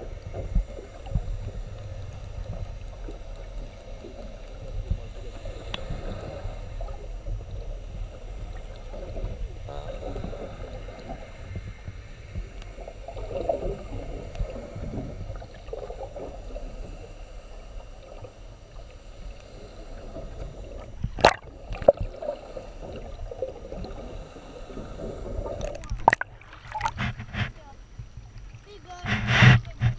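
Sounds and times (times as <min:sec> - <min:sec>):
underwater rush of moving water: 0:00.0 - 0:29.9.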